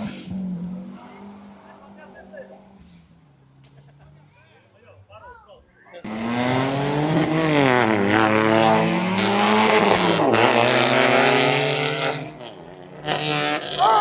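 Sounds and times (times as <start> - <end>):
car engine revving: 0.0 - 5.2, 6.0 - 14.0.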